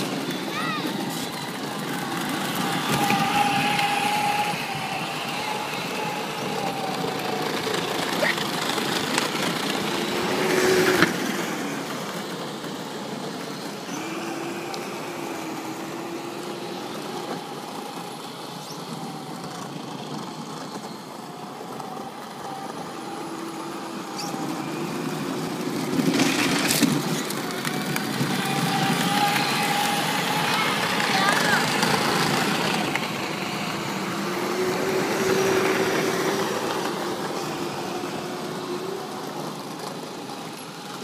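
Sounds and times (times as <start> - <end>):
electric motors whining: 0.0 - 41.0
rattling rush of passing vehicle: 0.0 - 41.0.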